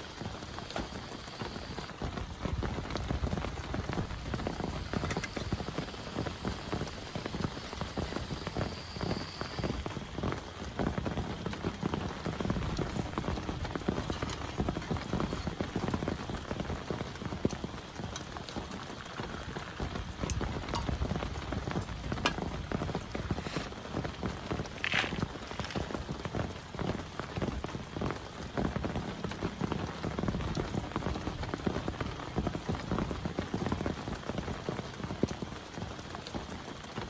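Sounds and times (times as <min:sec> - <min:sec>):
heavy rain pattering: 0:00.0 - 0:37.0.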